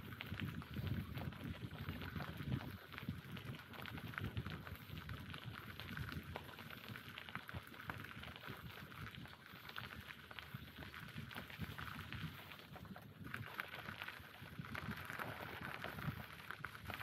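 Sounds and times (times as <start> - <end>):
bicycle tyres rolling on gravel: 0.0 - 17.0.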